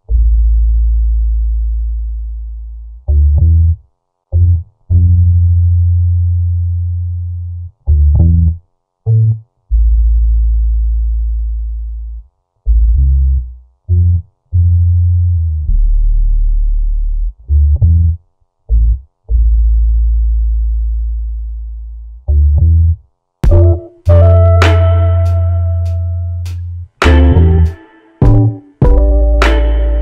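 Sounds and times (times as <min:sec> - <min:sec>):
deep bass music notes: 0:00.0 - 0:30.0.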